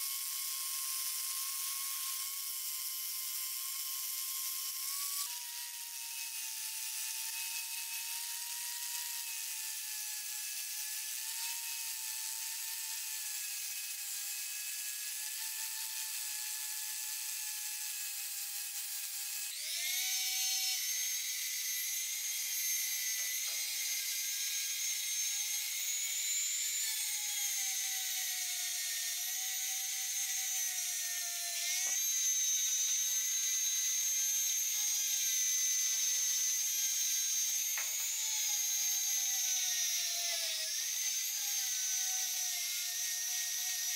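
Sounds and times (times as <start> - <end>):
angle grinder grinding metal: 0.0 - 43.9
rotary tool whine: 0.0 - 43.9.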